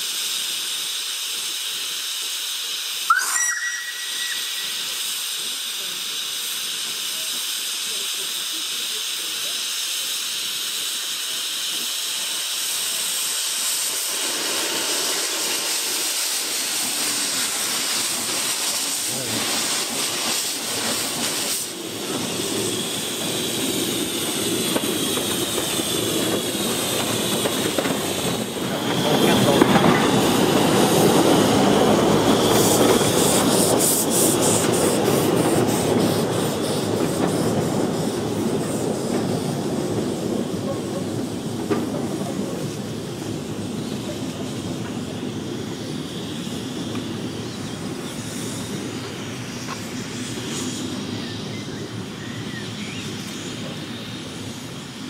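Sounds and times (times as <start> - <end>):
steam locomotive chuffing beat: 0.0 - 55.0
steam locomotive hissing steam: 0.0 - 55.0.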